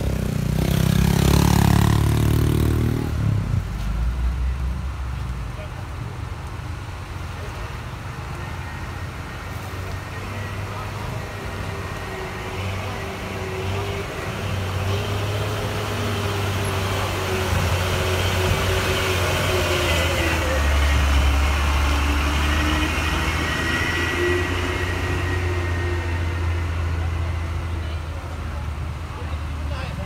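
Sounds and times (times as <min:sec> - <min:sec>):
heavy diesel truck engine: 0:05.6 - 0:30.0.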